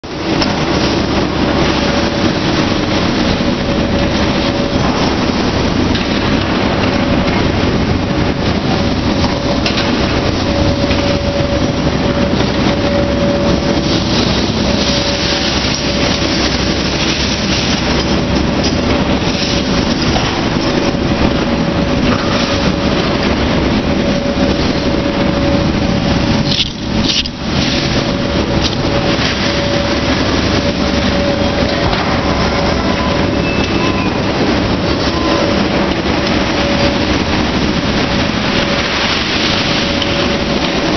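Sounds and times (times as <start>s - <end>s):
constant hum tone: 0.0s - 40.9s
heavy machinery running: 0.0s - 40.9s.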